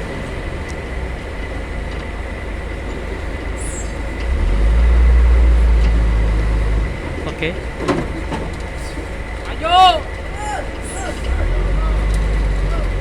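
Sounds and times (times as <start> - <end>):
heavy diesel engines rumbling: 0.0 - 13.0.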